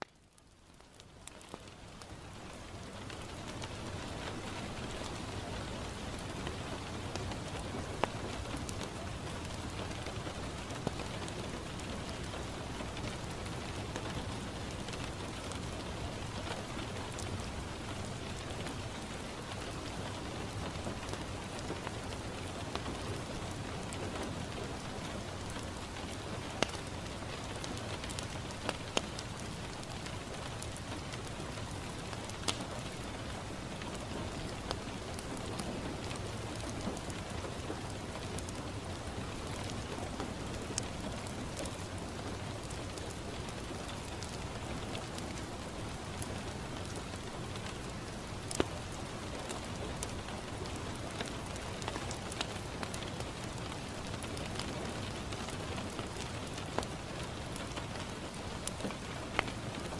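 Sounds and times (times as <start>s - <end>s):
rain pattering on a window: 0.0s - 59.9s
wood fire popping: 0.0s - 59.9s.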